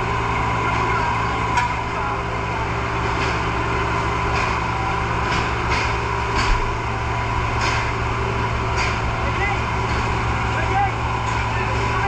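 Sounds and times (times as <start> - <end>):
fire truck engine running: 0.0 - 12.0.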